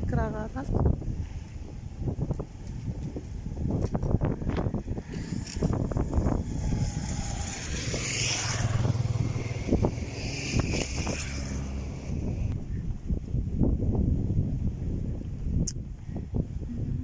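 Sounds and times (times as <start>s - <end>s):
vehicle engine hum: 0.0s - 14.3s.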